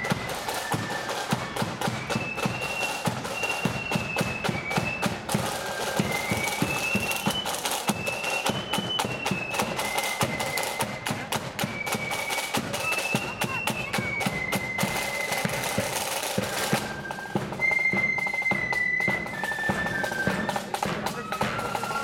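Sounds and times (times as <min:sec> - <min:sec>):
drums beating: 0:00.0 - 0:22.0
flutes playing melody: 0:00.0 - 0:22.0.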